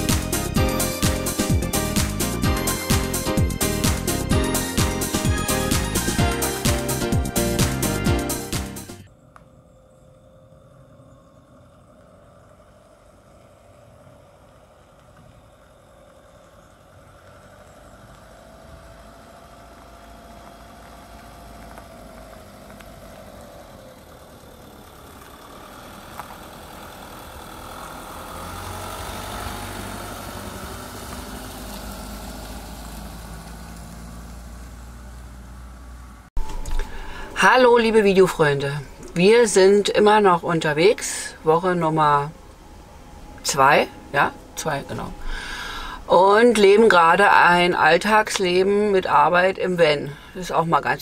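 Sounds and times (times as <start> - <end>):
diesel van engine passing: 0.0 - 51.0.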